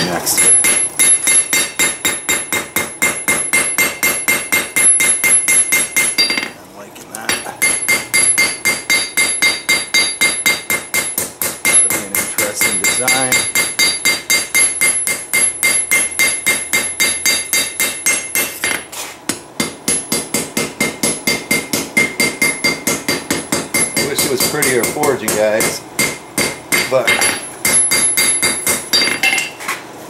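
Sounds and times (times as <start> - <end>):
hammer blows ringing on anvil: 0.0 - 6.6, 7.3 - 29.6.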